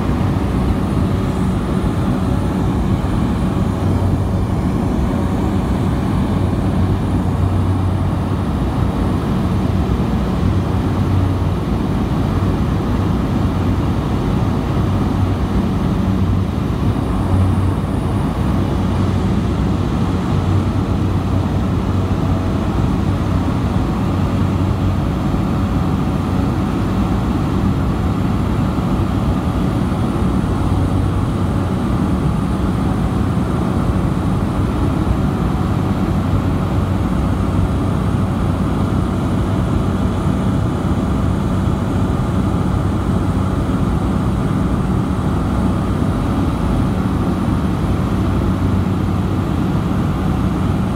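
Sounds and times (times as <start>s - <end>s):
propeller airplane engine drone: 0.0s - 50.9s.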